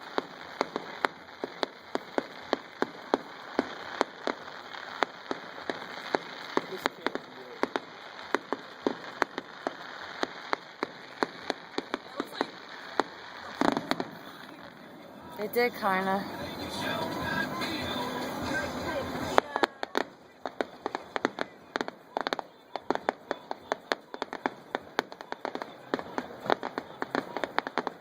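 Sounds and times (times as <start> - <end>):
fireworks pops and cracks: 0.0 - 28.0.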